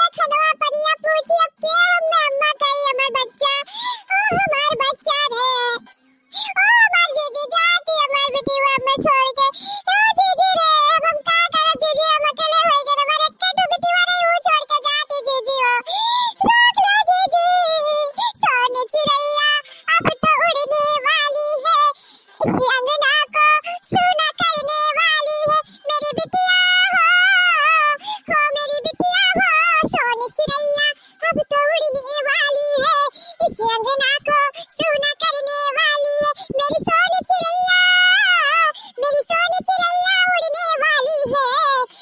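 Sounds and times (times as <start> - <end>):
high-pitched cartoon voice singing: 0.0 - 42.0.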